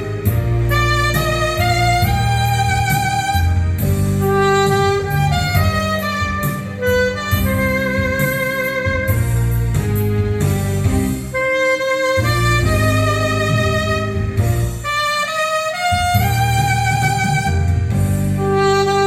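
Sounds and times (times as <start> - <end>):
saxophone playing slow melody: 0.0 - 19.0
steady bass line: 0.0 - 19.0.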